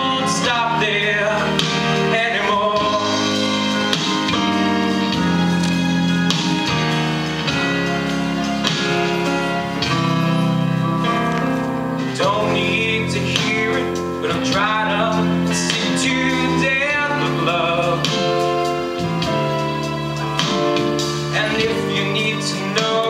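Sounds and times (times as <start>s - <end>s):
slow pop ballad instrumental: 0.0s - 23.0s.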